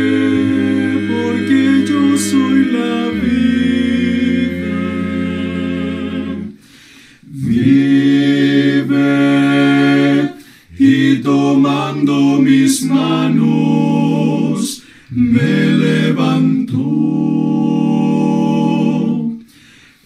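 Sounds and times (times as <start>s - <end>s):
male vocal quartet singing a hymn: 0.0s - 20.0s.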